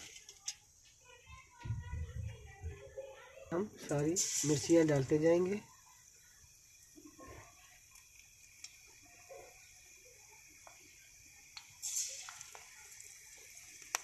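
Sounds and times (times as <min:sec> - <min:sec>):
chillies frying in oil: 0:00.0 - 0:14.0.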